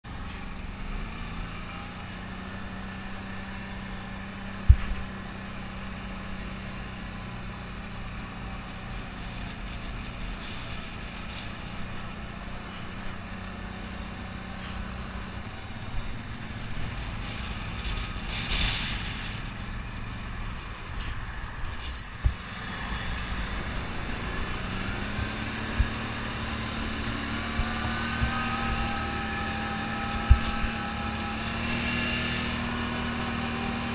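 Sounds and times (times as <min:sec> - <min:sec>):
quad bike engine: 0:00.0 - 0:33.9.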